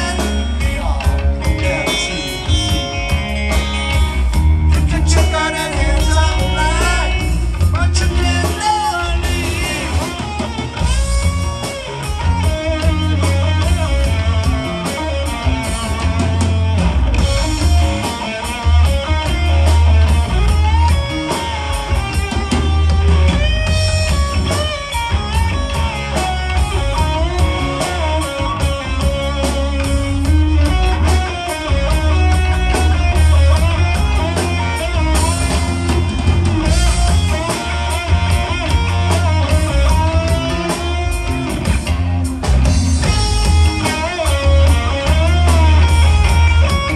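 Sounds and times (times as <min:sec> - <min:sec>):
driving drum kit: 0:00.0 - 0:46.9
electric guitar with bent notes: 0:00.0 - 0:46.9
heavy bass: 0:00.0 - 0:46.9.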